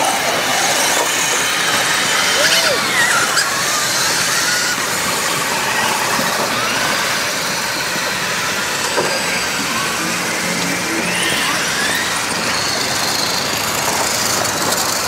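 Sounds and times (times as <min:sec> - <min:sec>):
electric motors and gears whining: 0:00.0 - 0:15.0.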